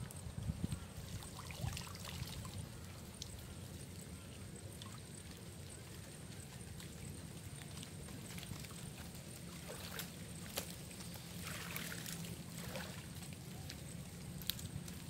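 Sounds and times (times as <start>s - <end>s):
water sloshing and trickling: 0.0s - 15.0s.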